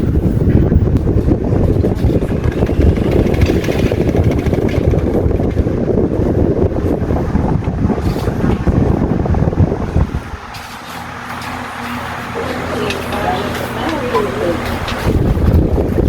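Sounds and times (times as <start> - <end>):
fan airflow buffeting microphone: 0.0 - 16.0.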